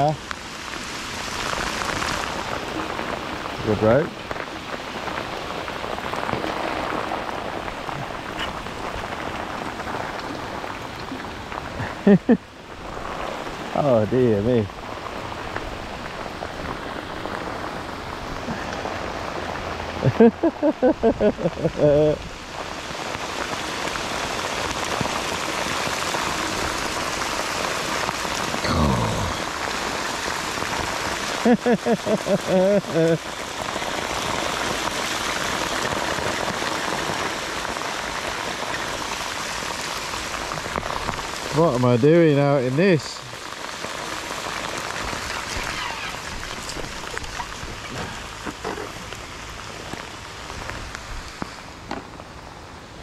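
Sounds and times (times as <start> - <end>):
heavy rain on river surface: 0.0 - 53.0.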